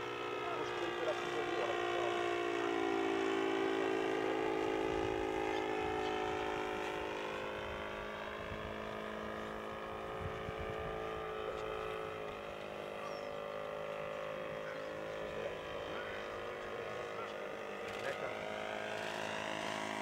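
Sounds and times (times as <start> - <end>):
model plane engine drone: 0.0 - 20.0.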